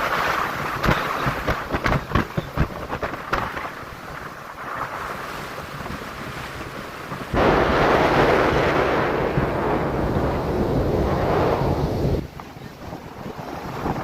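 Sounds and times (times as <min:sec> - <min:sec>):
water rushing past: 0:00.0 - 0:14.0
wind buffeting microphone: 0:00.0 - 0:14.0.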